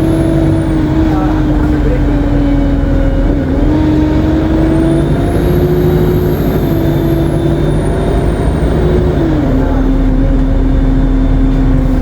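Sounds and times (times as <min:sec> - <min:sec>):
bus engine droning: 0:00.0 - 0:12.0
high turbo whine: 0:00.0 - 0:12.0.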